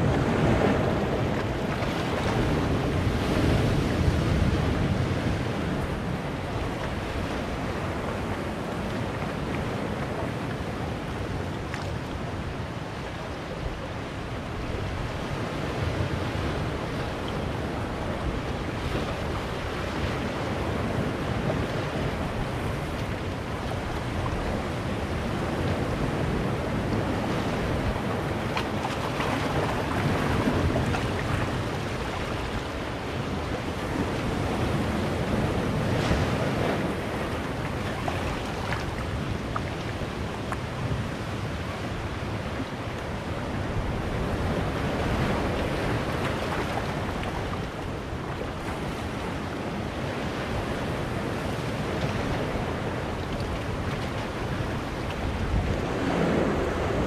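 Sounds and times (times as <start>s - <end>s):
sea surf washing among boulders: 0.0s - 57.0s.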